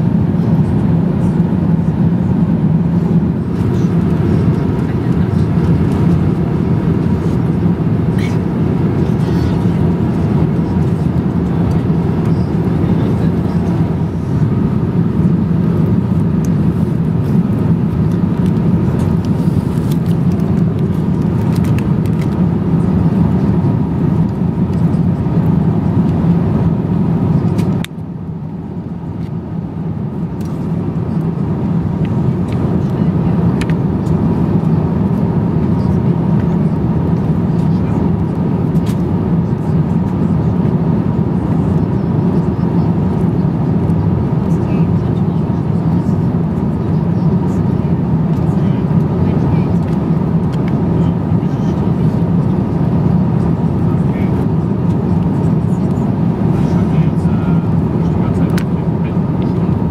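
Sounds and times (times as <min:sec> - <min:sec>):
airplane cabin noise: 0:00.0 - 0:59.9.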